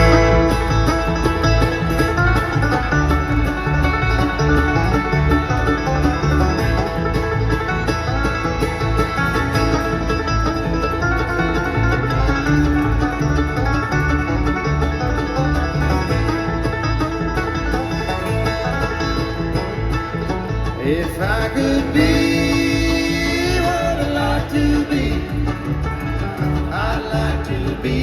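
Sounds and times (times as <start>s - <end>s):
acoustic guitar picking: 0.0s - 28.0s
banjo picking: 0.0s - 28.0s
pulsing bass: 0.0s - 28.0s.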